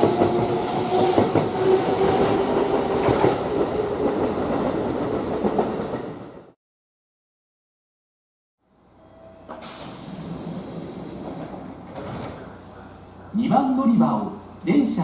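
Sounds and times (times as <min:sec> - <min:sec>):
train humming: 0:00.0 - 0:06.6, 0:08.6 - 0:15.0.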